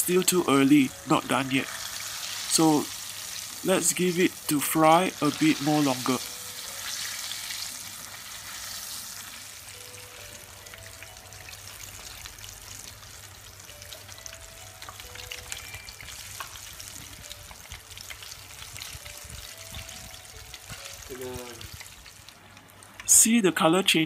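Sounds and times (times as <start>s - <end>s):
fritters deep-frying in hot oil: 0.0s - 24.0s.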